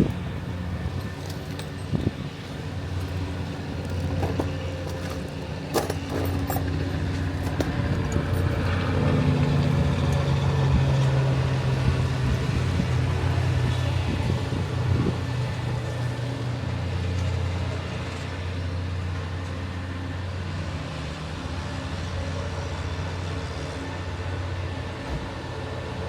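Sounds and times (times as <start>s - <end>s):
low motor hum: 0.0s - 25.9s.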